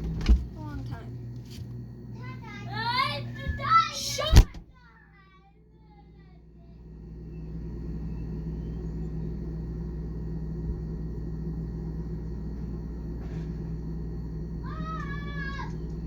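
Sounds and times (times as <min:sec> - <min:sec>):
refrigerator humming: 0:00.0 - 0:16.0.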